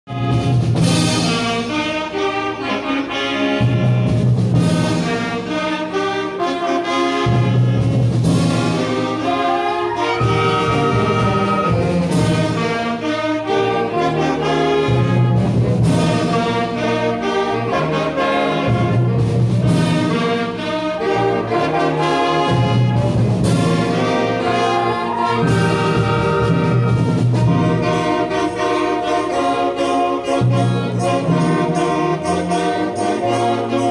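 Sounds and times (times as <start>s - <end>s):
wind band playing: 0.1s - 33.9s.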